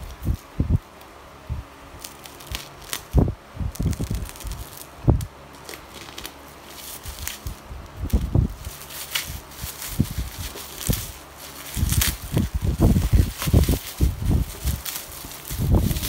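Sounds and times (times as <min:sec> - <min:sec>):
bubble wrap crinkling: 0:00.0 - 0:01.2, 0:01.9 - 0:16.0.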